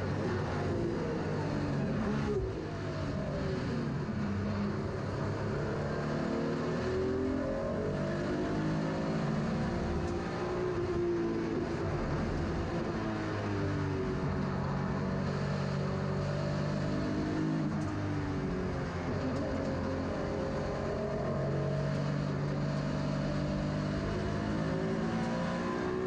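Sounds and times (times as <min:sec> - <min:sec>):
race car engine accelerating: 0:00.0 - 0:26.0.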